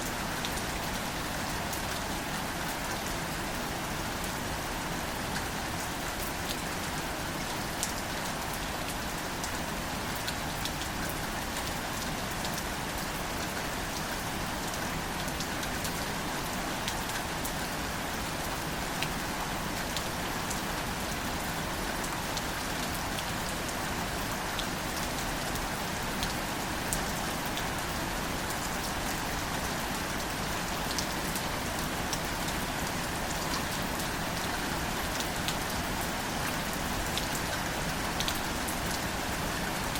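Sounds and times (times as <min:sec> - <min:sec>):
gentle rain on plants: 0:00.0 - 0:39.9.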